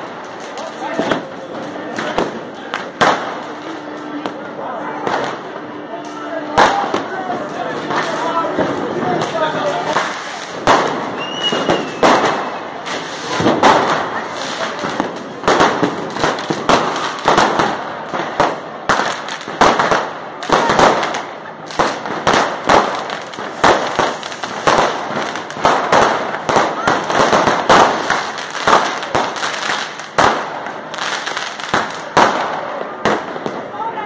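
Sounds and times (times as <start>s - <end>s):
fireworks and firecrackers banging: 0.0s - 34.0s.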